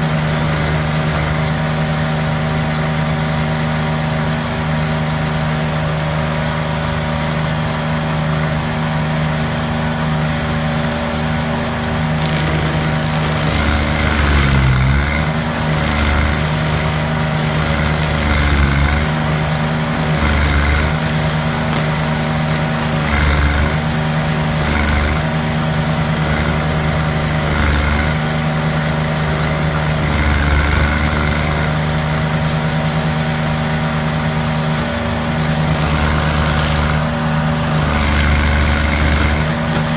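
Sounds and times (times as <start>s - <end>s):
cutting wheel grinding wood: 0.0s - 39.9s
gas engine running at high throttle: 0.0s - 39.9s.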